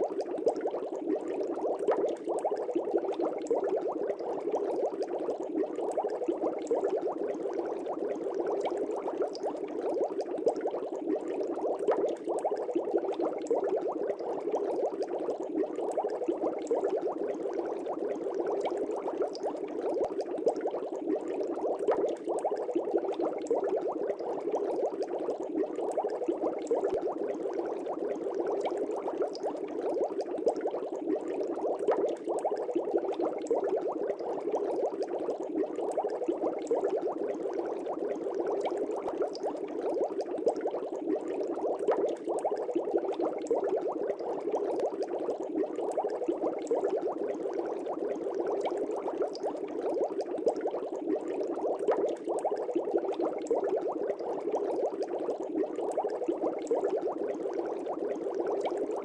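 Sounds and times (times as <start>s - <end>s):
aquarium air bubbling: 0.0s - 59.0s.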